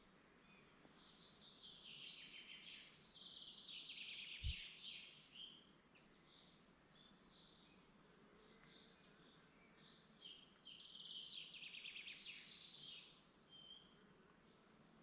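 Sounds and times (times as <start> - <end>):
soft steady hiss: 0.0 - 15.0
songbirds singing: 0.0 - 15.0.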